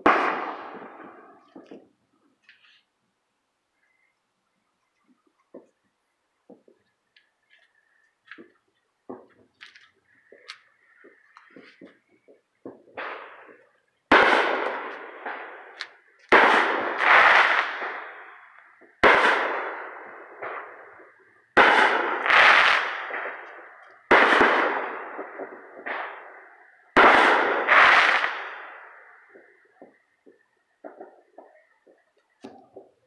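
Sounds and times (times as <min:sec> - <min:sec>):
fireworks bursting: 0:00.0 - 0:02.8, 0:06.4 - 0:33.0.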